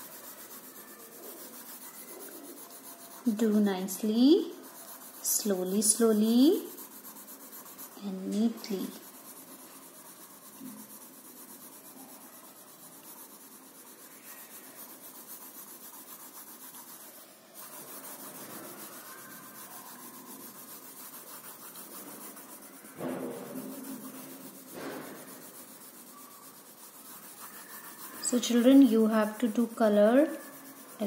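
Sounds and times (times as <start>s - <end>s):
pencil shading on paper: 0.0s - 31.0s.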